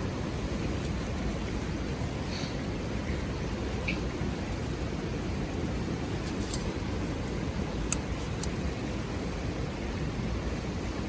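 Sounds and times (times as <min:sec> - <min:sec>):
low fire rumble: 0:00.0 - 0:11.0.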